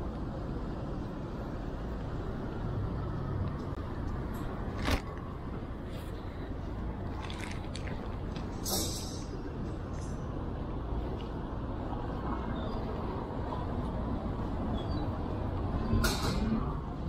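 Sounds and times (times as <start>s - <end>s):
traffic on wet street: 0.0s - 17.0s
vehicle hum: 0.0s - 17.0s.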